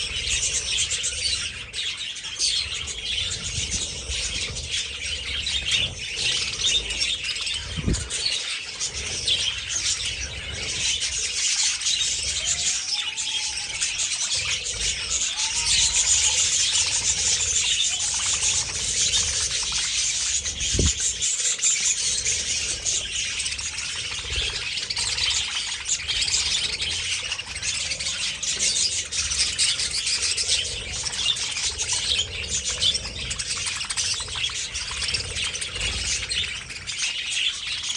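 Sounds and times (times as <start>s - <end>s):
budgerigars chirping and chattering: 0.0s - 37.9s.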